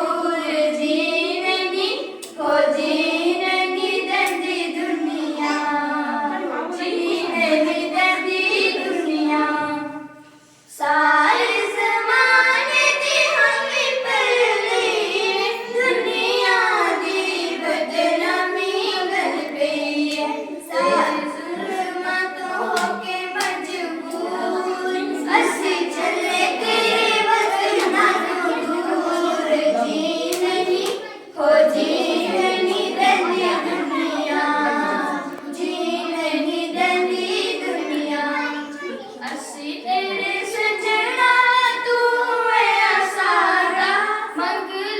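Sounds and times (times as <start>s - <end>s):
children singing together: 0.0s - 44.9s.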